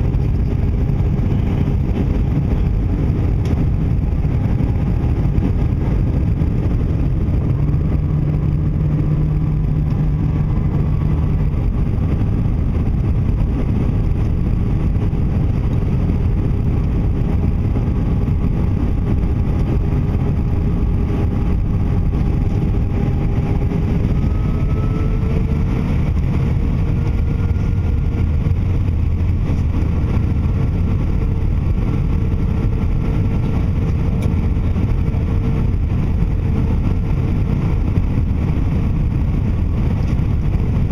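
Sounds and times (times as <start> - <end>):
airliner cabin engine rumble: 0.0 - 40.9
thin engine tones: 0.0 - 40.9.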